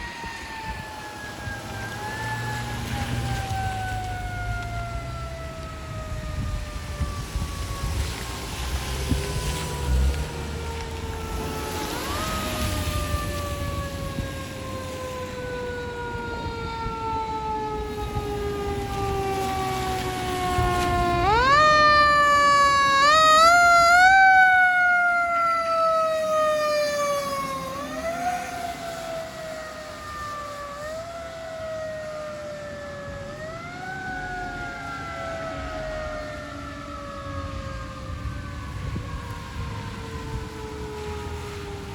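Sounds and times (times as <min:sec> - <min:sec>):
siren wailing: 0:00.0 - 0:41.9.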